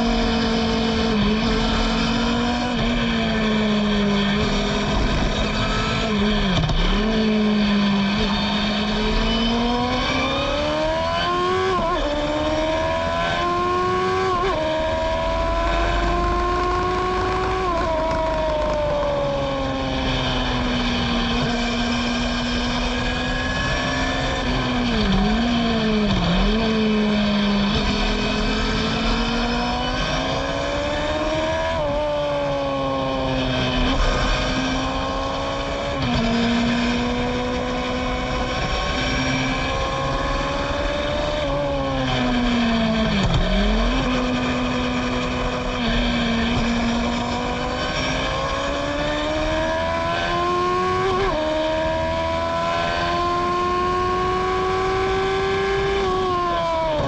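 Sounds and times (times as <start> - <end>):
racing car engine: 0.0 - 57.0.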